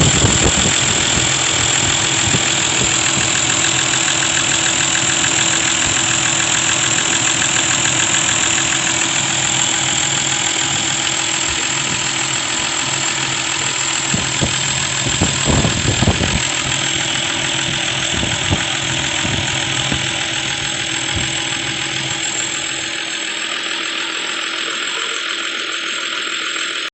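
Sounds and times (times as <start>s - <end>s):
diesel engine idling: 0.0s - 26.9s.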